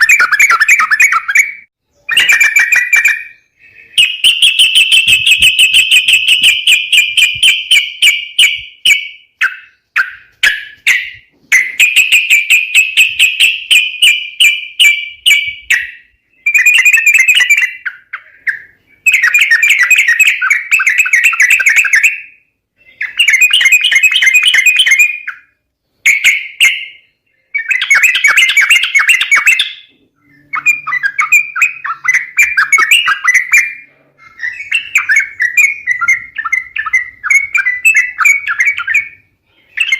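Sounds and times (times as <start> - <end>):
bulbul rapid chattering calls: 0.0 - 22.2, 22.8 - 25.4, 27.6 - 39.9.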